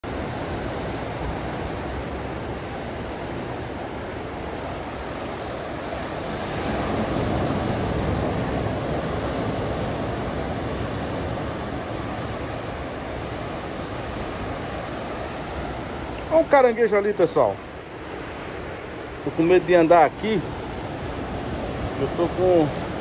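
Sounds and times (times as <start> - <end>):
sea surf over rocks and sand: 0.0 - 23.0.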